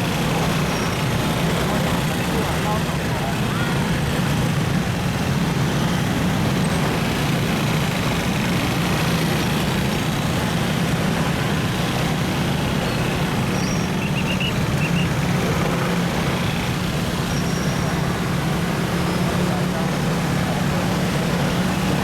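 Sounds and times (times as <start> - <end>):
car engine humming: 0.0 - 22.0
road noise: 0.0 - 22.0.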